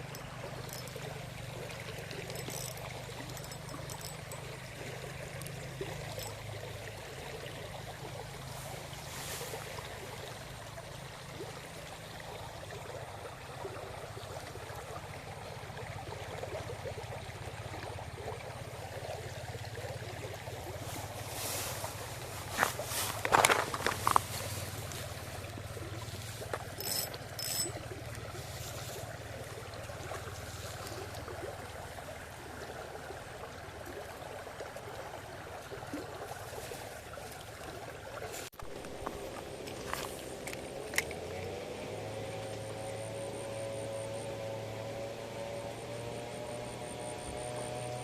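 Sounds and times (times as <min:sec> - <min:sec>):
stream water rushing: 0:00.0 - 0:46.3.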